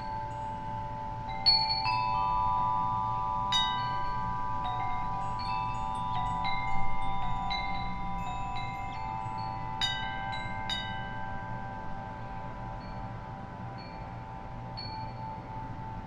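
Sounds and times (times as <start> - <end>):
metal wind chime ringing: 0.0 - 16.0.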